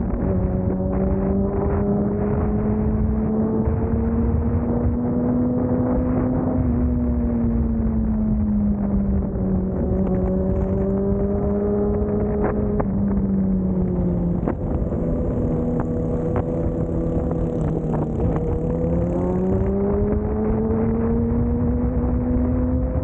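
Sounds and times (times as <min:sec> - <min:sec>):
road and wind rumble: 0:00.0 - 0:23.0
vehicle engine while driving: 0:00.0 - 0:23.0.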